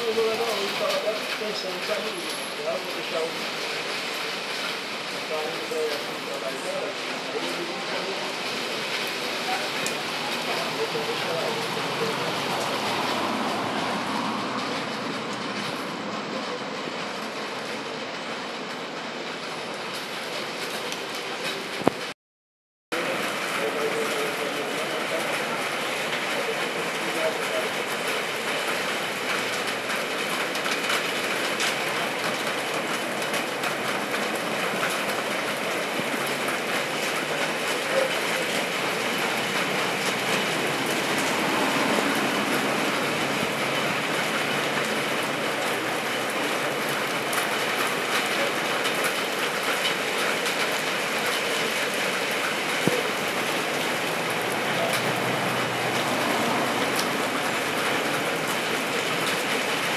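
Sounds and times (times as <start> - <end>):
rain falling on street and rooftops: 0.0 - 22.2, 22.9 - 59.9.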